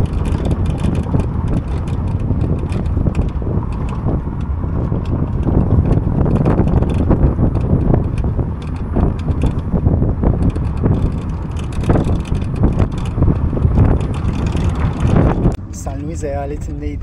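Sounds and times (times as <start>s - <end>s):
light rattles and clicks: 0.0s - 16.7s
vehicle road and engine rumble: 0.0s - 17.0s
wind buffeting microphone: 0.0s - 17.0s.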